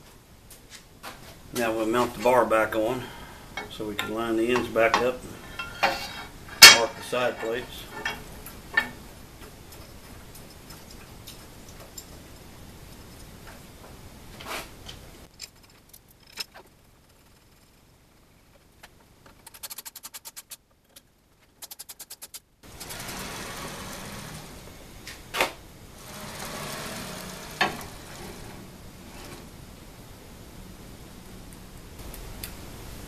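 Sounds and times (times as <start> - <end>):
faint hiss: 0.0 - 33.0.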